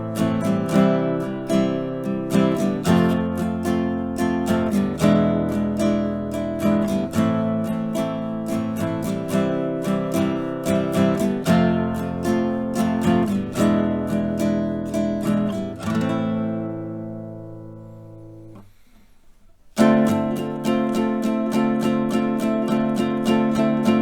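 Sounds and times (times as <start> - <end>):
classical guitar strummed chords: 0.0 - 24.0.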